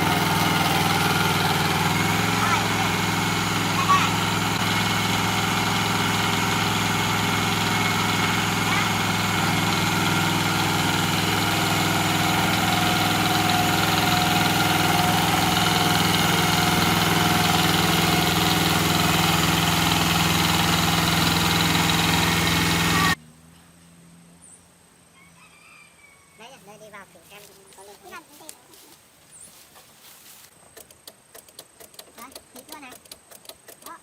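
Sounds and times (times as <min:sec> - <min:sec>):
vehicle engine running: 0:00.0 - 0:25.1, 0:26.6 - 0:34.0.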